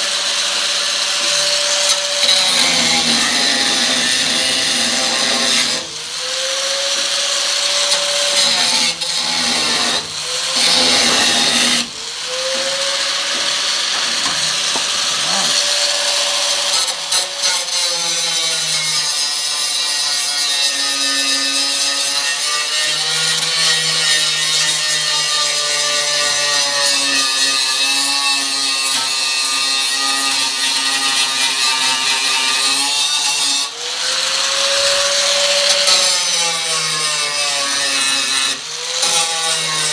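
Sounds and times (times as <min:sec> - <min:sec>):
power grinder on metal: 0:00.0 - 0:39.9.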